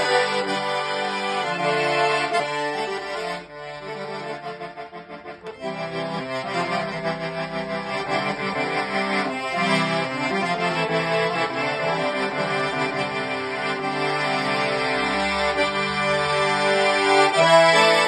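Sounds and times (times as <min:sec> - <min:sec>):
piano accordion melody: 0:00.0 - 0:18.0.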